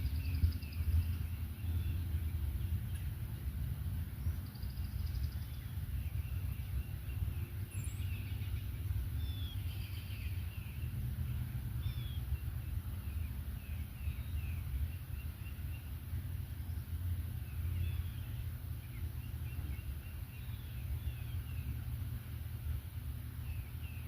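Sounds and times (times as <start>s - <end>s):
songbirds singing: 0.0s - 24.0s
steady low rumble: 0.0s - 24.0s.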